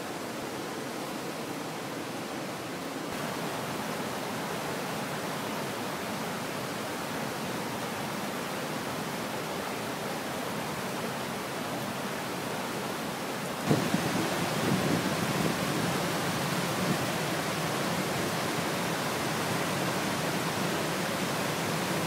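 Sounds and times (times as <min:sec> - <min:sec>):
rushing creek and waterfall: 0:00.0 - 0:22.0.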